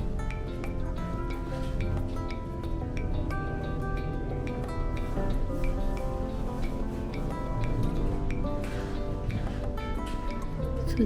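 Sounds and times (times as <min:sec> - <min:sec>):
music with held notes: 0:00.0 - 0:11.0
steady ticking beat: 0:00.0 - 0:11.0.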